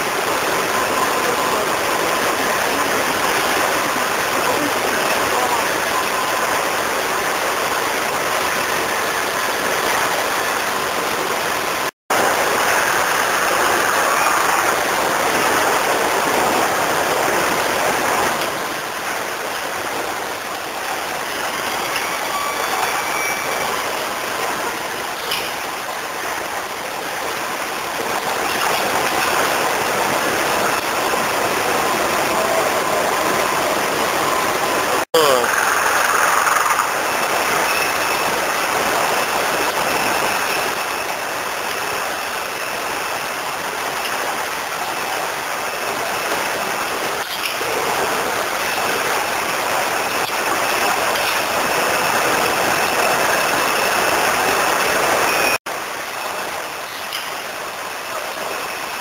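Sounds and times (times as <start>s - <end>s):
rushing conveyor machine noise: 0.0s - 59.0s.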